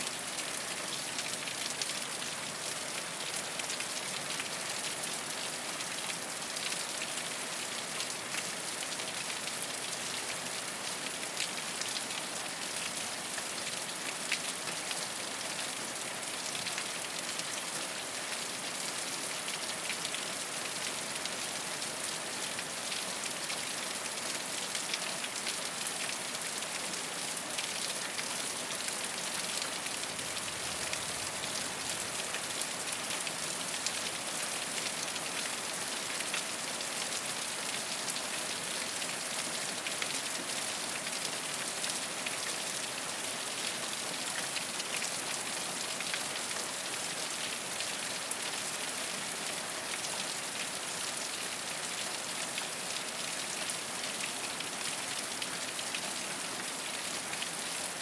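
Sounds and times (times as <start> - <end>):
rain on a rooftop: 0.0 - 58.0.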